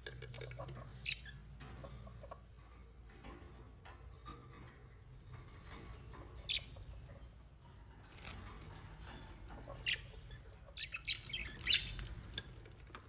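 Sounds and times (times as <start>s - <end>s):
small birds chirping: 0.0s - 3.3s, 5.4s - 13.0s.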